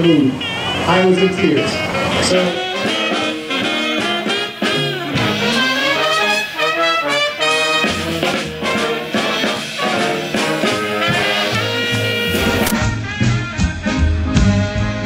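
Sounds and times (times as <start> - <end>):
upbeat swing music with brass: 1.2 - 15.0.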